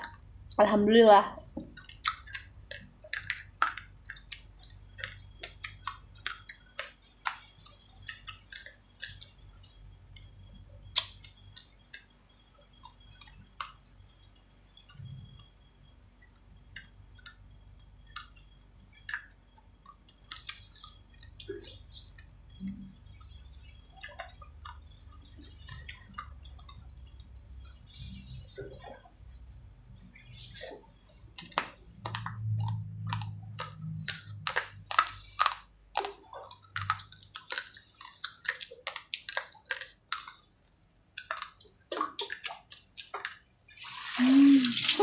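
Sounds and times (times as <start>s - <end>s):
chewing crunchy rice grains: 1.4s - 29.5s, 30.1s - 43.9s.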